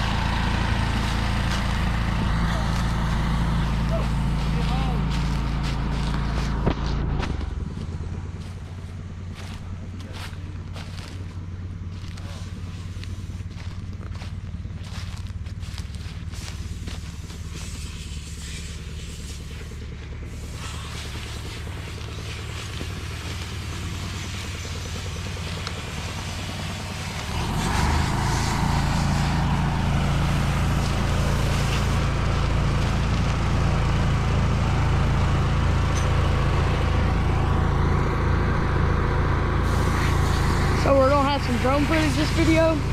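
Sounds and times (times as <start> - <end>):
vehicle engine running: 0.0 - 42.9.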